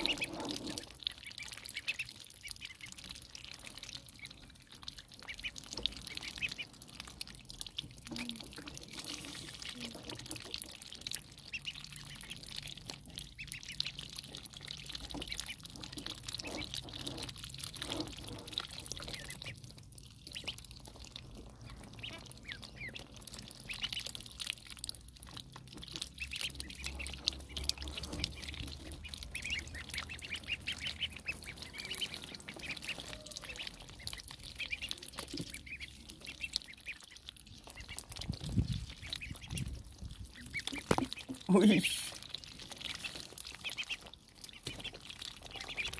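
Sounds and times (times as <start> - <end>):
ducklings peeping: 0.0 - 45.9.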